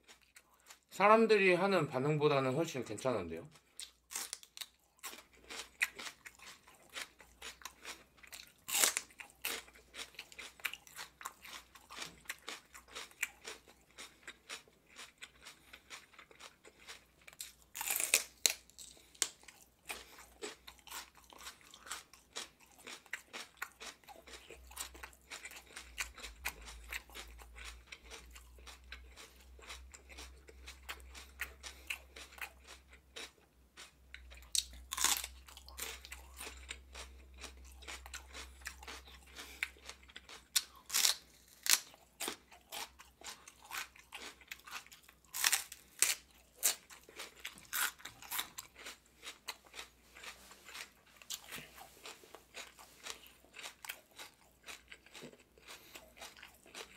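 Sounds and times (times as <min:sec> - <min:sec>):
chewing crunching: 0:00.0 - 0:00.9, 0:03.5 - 0:56.9.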